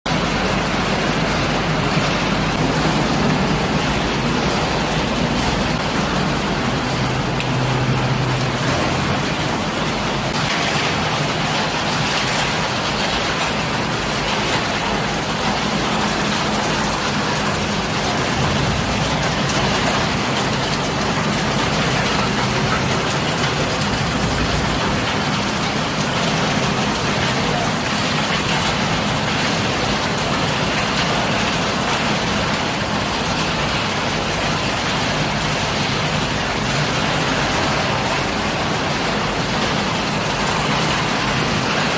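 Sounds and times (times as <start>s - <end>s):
dense mechanical noise: 0.0s - 41.9s.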